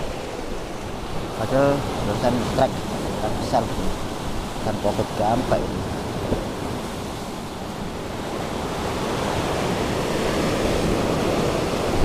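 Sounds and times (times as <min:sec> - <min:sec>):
sea surf breaking over rocks: 0:00.0 - 0:12.0.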